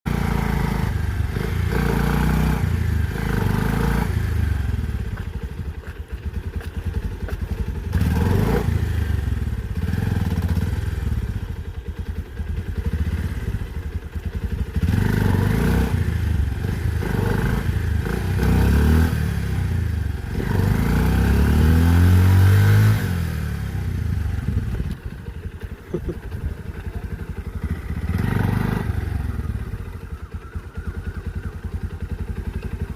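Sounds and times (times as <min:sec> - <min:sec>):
motorcycle engine revving: 0:00.1 - 0:32.9.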